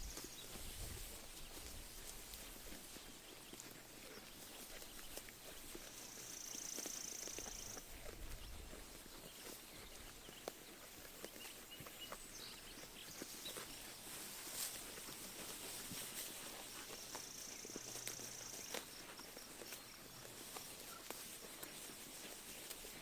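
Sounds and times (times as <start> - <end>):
sheep chewing grass: 0.0 - 23.0.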